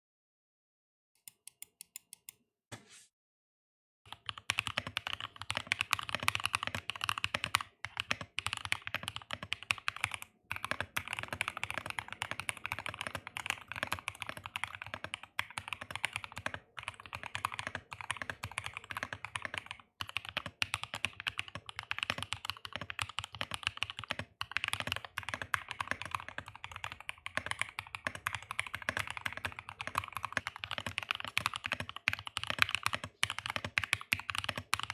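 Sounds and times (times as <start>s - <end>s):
mechanical keyboard typing: 4.1s - 34.9s.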